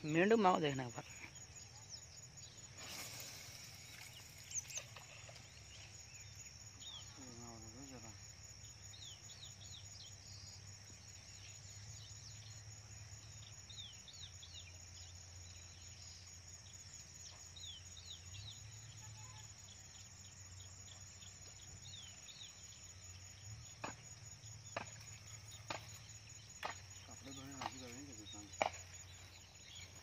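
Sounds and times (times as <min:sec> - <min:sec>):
high insect drone: 0:00.0 - 0:30.0
small birds chirping: 0:00.0 - 0:30.0.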